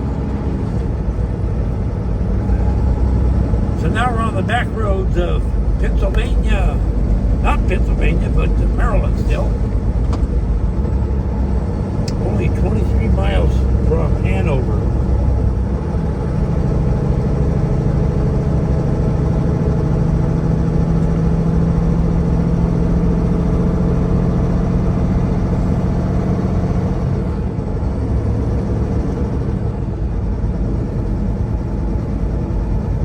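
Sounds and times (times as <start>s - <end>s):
road noise: 0.0s - 33.0s
truck diesel engine running: 0.0s - 33.0s.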